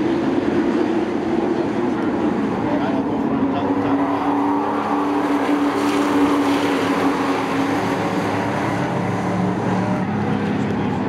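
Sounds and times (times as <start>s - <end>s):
race truck engines droning: 0.0s - 11.0s.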